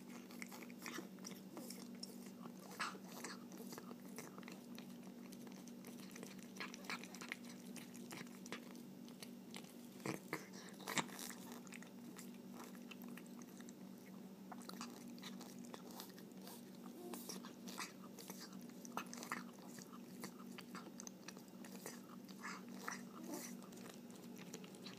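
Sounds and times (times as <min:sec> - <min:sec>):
cat chewing food: 0:00.0 - 0:24.9.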